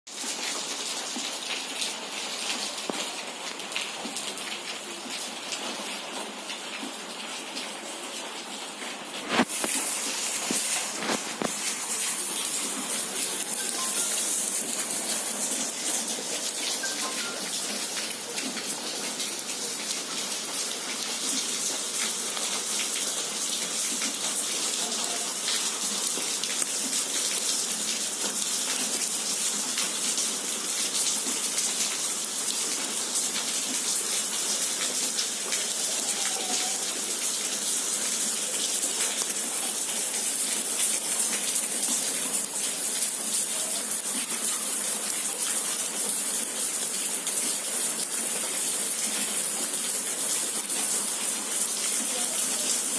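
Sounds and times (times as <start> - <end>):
rain hissing on wet street: 0.1 - 52.9.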